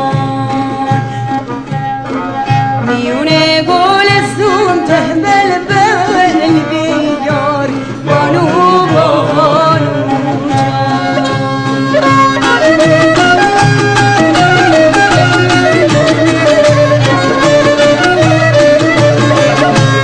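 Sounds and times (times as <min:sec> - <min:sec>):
ornamented folk melody: 0:00.0 - 0:20.0.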